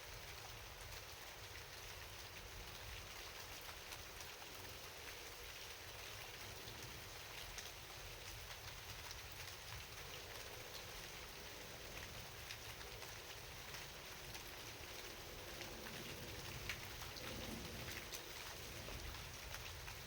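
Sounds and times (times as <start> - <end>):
rain drops ticking: 0.0 - 20.0
rain hiss: 0.0 - 20.0.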